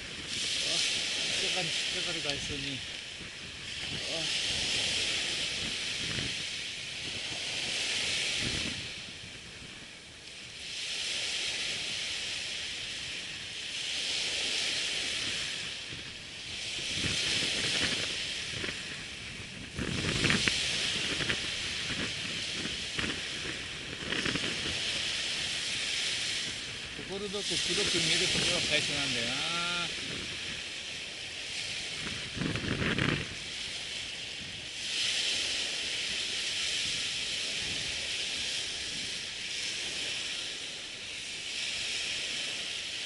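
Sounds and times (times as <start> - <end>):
waves breaking on a beach: 0.0 - 43.0.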